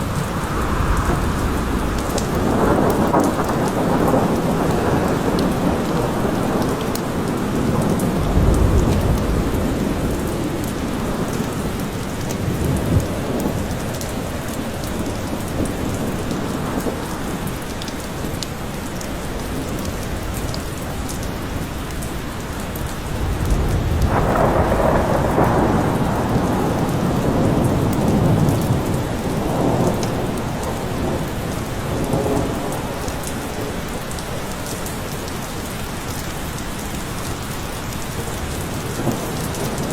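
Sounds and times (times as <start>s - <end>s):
thunder rumbling: 0.0s - 35.2s
heavy rain falling: 0.0s - 39.9s.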